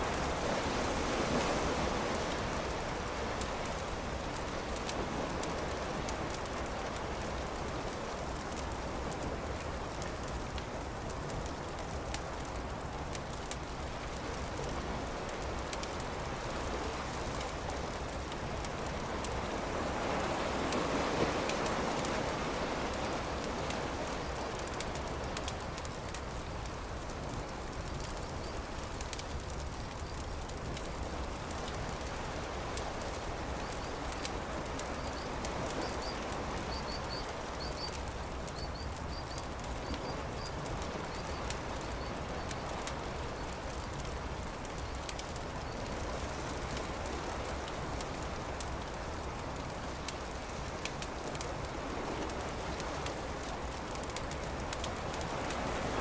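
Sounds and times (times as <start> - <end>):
campfire crackling and popping: 0.0 - 56.0
surf washing: 0.0 - 56.0.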